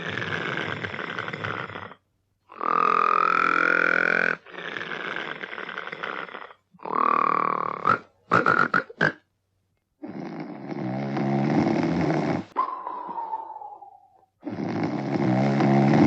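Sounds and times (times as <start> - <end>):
cartoon bear snoring: 0.0 - 9.2, 10.0 - 16.0.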